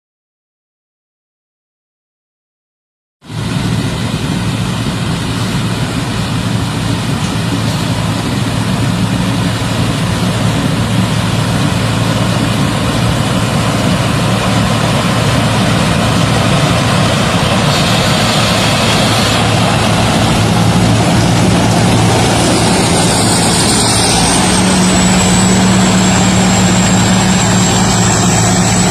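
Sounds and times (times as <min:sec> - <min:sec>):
combine harvester engine drone: 0:03.3 - 0:28.9.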